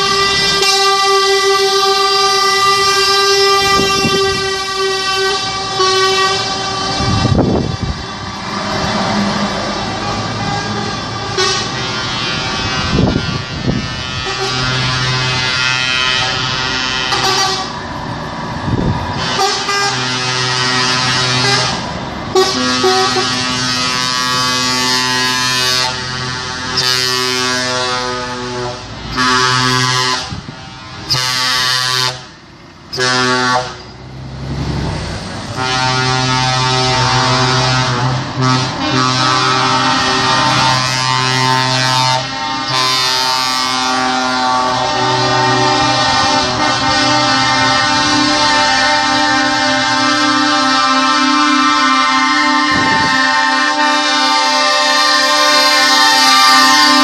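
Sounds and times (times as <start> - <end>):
truck air horns blasting: 0.0 - 17.9, 18.6 - 34.1, 35.4 - 57.0.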